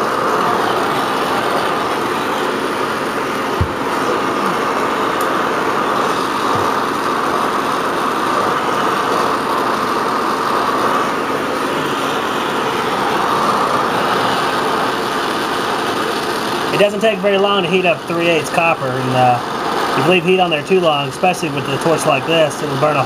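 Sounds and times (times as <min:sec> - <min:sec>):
torch flame rushing: 0:00.0 - 0:23.0.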